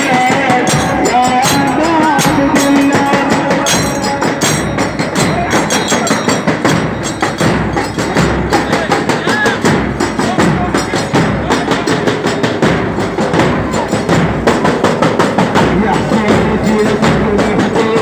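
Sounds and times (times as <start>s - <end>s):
rhythmic percussion strokes: 0.0s - 18.0s.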